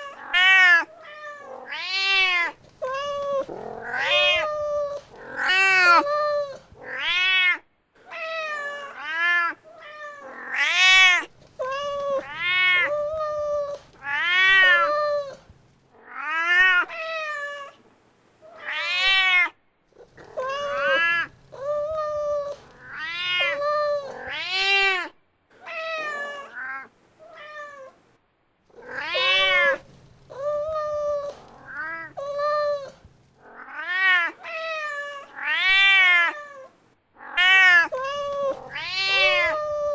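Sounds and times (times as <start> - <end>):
cat meowing: 0.0 - 17.8, 18.5 - 28.0, 28.7 - 39.9.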